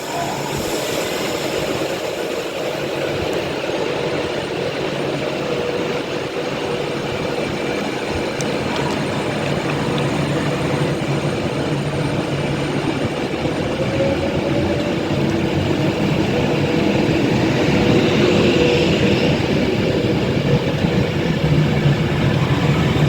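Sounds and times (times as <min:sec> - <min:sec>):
electric train running hum: 0:00.0 - 0:23.0.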